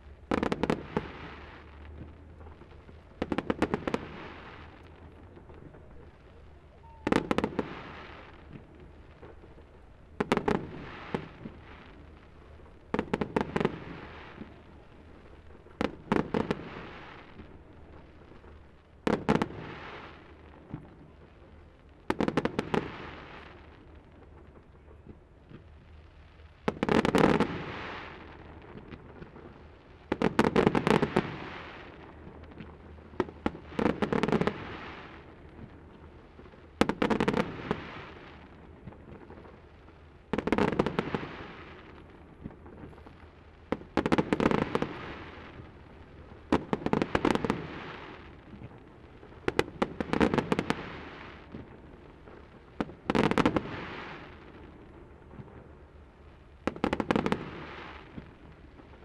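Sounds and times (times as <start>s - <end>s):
fireworks crackling bangs: 0.0s - 59.0s.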